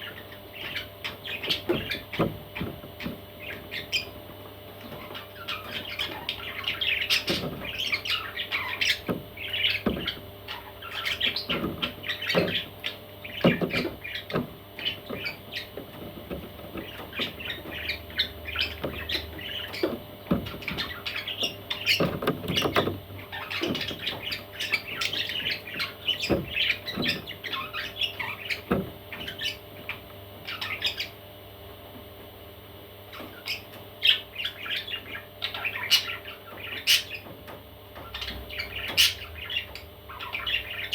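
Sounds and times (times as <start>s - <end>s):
baby parrots calling: 0.0s - 31.2s, 33.1s - 37.4s, 38.0s - 40.9s.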